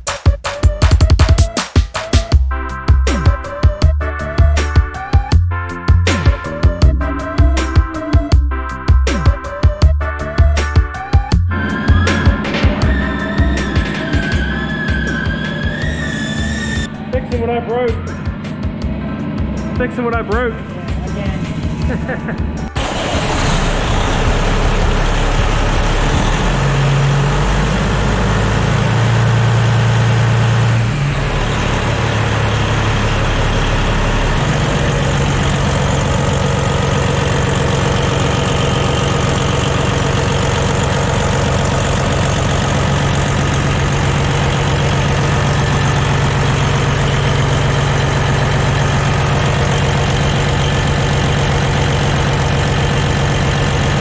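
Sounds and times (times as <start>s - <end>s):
diesel truck engine idling: 2.5s - 54.0s.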